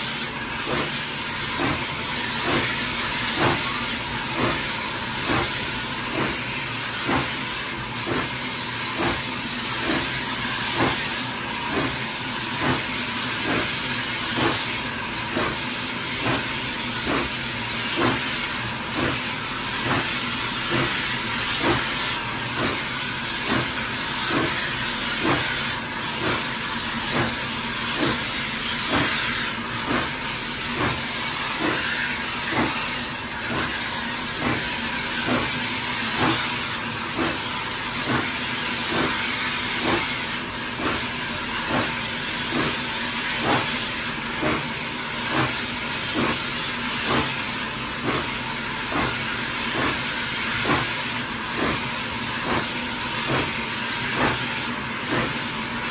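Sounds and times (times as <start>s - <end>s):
loud hiss of steam: 0.0s - 55.9s
steam locomotive exhaust beats: 0.0s - 55.9s.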